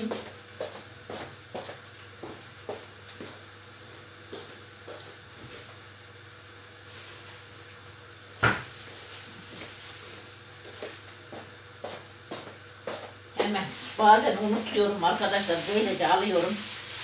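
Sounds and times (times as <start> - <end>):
onions sizzling in oil: 0.4 - 17.0.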